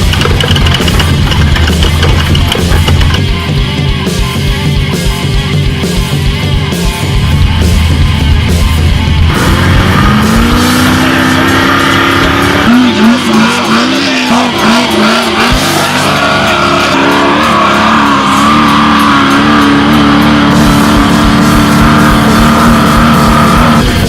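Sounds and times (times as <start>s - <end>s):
music: 0.0s - 24.0s
truck engine revving high: 0.0s - 24.0s.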